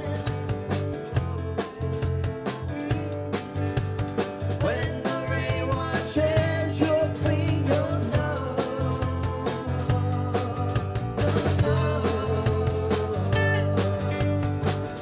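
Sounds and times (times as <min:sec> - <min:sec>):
person singing: 0:00.0 - 0:02.8, 0:04.6 - 0:15.0
drum kit beat: 0:00.0 - 0:15.0
guitars and bass: 0:00.0 - 0:15.0.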